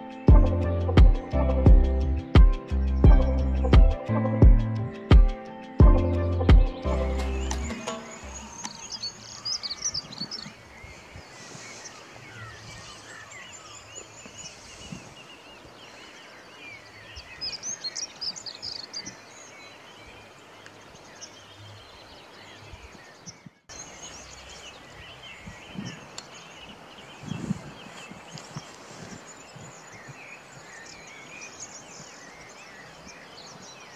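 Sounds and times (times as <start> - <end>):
faint outdoor hiss: 0.0 - 33.9
small birds chirping: 0.0 - 33.9.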